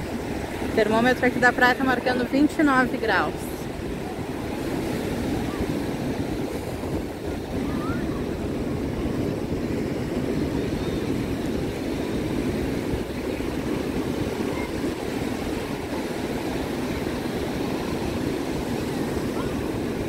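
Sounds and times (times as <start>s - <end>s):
surf rushing on beach: 0.0s - 20.0s
wind buffeting microphone: 0.0s - 20.0s.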